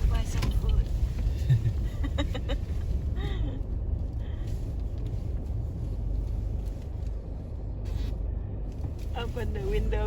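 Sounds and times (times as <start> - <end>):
car interior rumble: 0.0 - 10.0.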